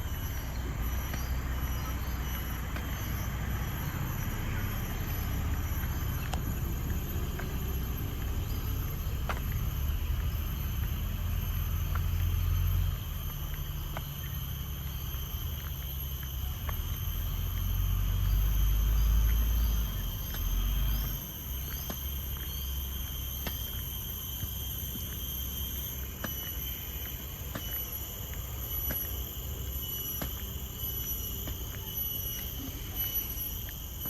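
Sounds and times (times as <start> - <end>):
high-pitched insect drone: 0.0 - 34.0
road traffic rumble: 0.0 - 34.0.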